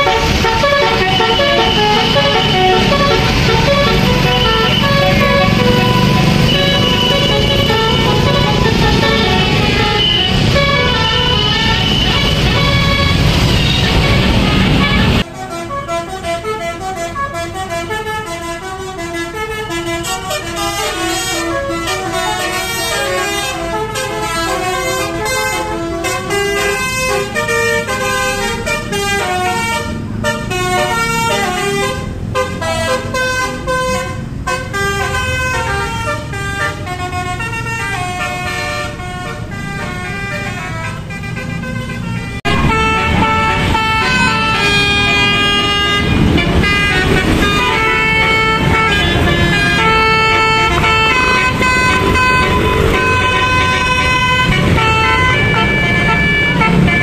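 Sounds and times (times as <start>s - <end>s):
engine and traffic noise: 0.0s - 57.0s
multi-tone bus horn melody: 0.0s - 57.0s.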